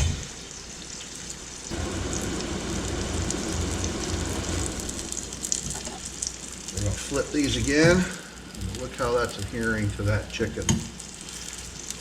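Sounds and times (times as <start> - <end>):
sauce bubbling and sizzling in pan: 0.0 - 12.0.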